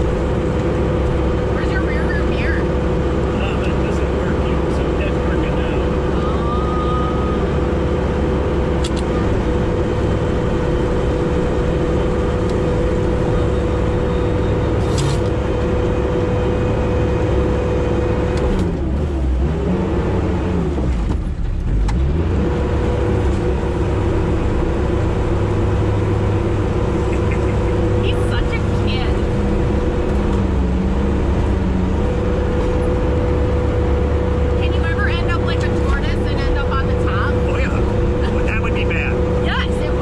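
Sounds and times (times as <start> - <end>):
diesel engine whining under load: 0.0 - 40.0.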